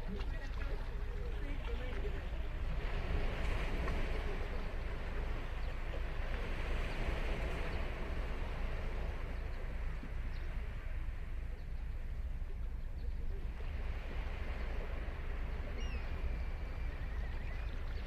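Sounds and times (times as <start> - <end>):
ocean surf breaking on beach: 0.0 - 12.5, 13.2 - 18.0.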